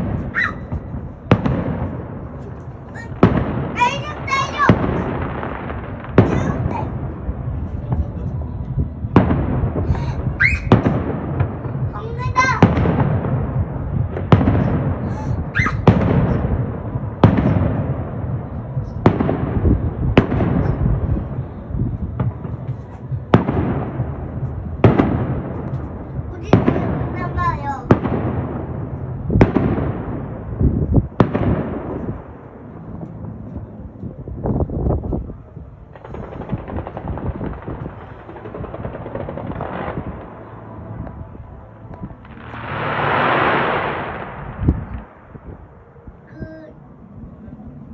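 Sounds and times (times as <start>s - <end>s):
fireworks bangs: 0.0s - 35.2s, 35.8s - 45.8s
fireworks rumble and crackle: 0.0s - 47.9s.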